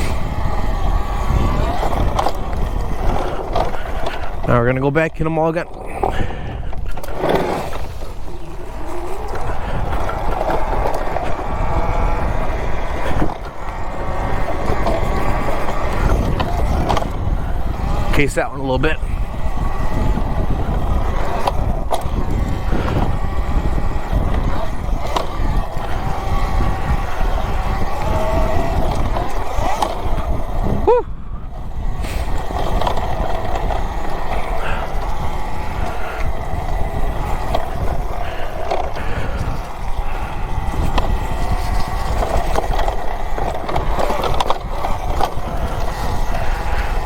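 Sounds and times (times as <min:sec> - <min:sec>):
faint electric motor whine: 0:00.0 - 0:47.0
rough riding noise: 0:00.0 - 0:47.0
wind and tyres rumbling: 0:00.0 - 0:47.0.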